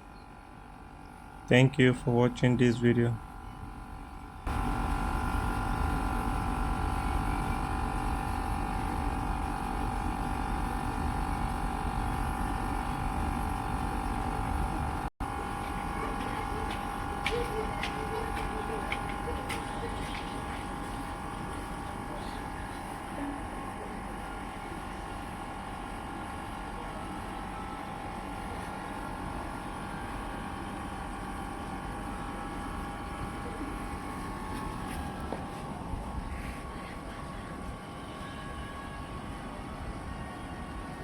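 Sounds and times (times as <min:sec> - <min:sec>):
air conditioner unit running: 0:00.0 - 0:41.0.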